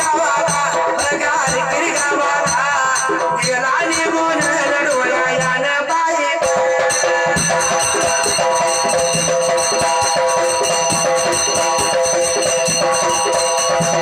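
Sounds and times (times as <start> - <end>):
fast rattling percussion: 0.0 - 14.0.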